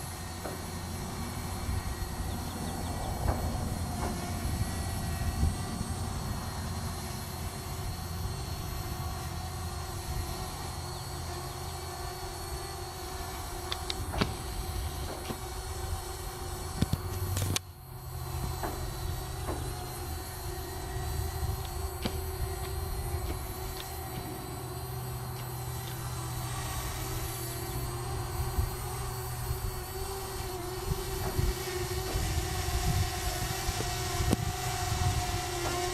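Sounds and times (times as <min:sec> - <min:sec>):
drone propellers humming: 0:00.0 - 0:35.9.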